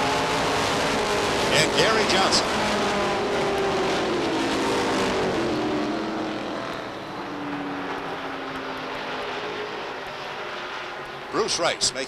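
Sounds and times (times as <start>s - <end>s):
race car engines at speed: 0.0s - 12.0s.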